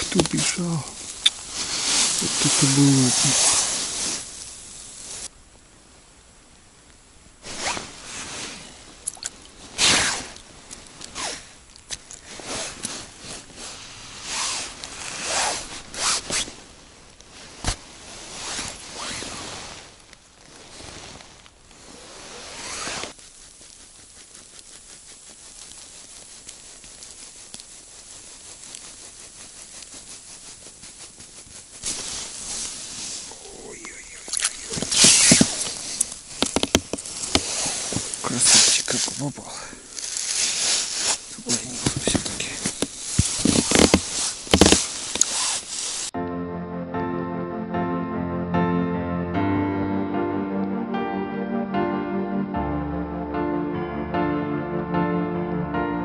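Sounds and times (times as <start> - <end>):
rustling and crunching of snow: 0.0 - 6.1, 7.4 - 46.2
faint steady hiss: 0.0 - 46.2.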